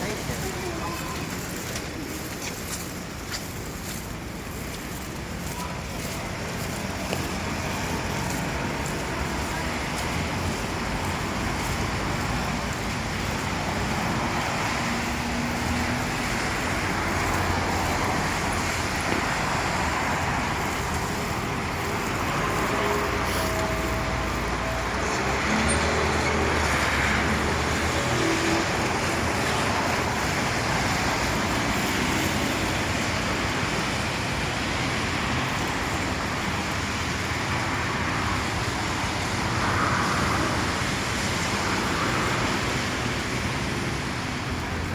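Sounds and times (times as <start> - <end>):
road traffic passing: 0.0 - 44.9.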